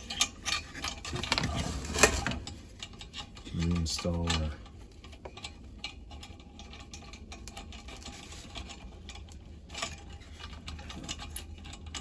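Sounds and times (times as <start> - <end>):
low steady hum: 0.0 - 12.0
small metal parts clicking and tapping: 0.0 - 12.0.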